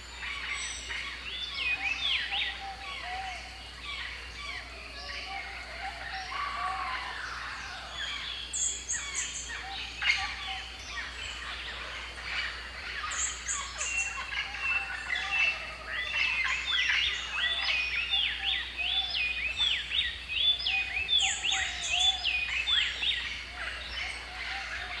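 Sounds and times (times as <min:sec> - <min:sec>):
birds calling and chirping: 0:00.0 - 0:25.0.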